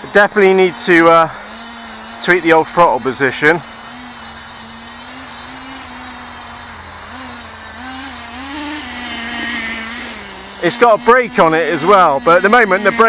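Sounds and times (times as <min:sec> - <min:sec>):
small model engine running: 0:00.0 - 0:13.0.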